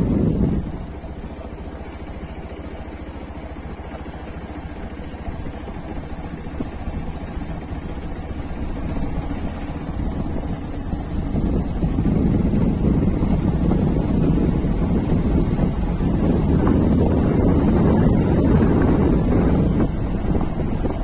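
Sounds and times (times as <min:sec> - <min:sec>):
road and wind noise: 0:00.0 - 0:21.0
vehicle engine cruising: 0:00.0 - 0:21.0.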